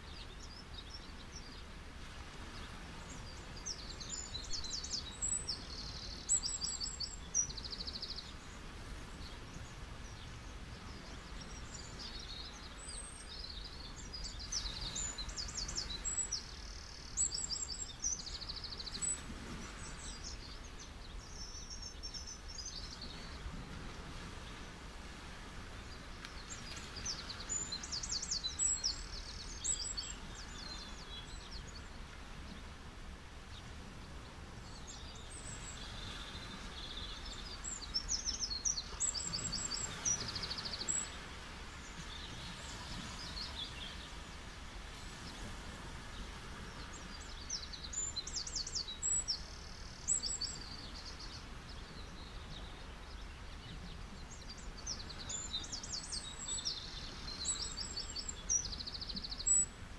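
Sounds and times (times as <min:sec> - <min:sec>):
beach waves: 0:00.0 - 0:59.9
small birds chirping and trilling: 0:02.5 - 0:23.5, 0:25.9 - 0:32.6, 0:34.6 - 0:44.5, 0:46.5 - 0:59.8.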